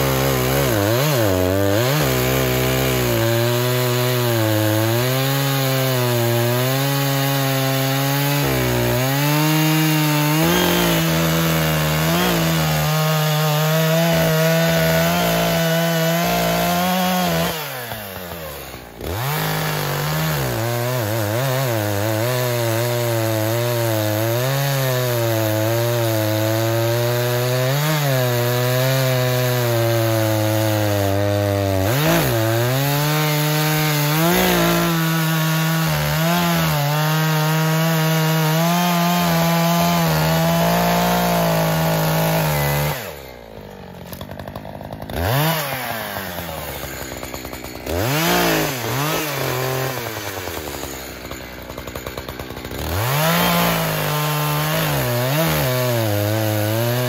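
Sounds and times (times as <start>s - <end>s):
chainsaw cutting logs: 0.0s - 57.0s
chainsaw idling with throttle blips: 0.0s - 57.0s.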